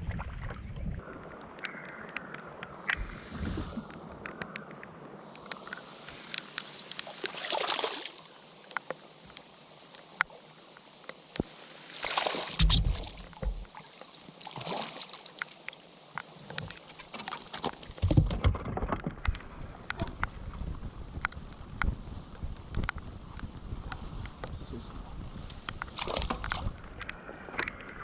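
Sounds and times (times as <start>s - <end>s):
water sloshing around kayak: 5.2s - 28.0s.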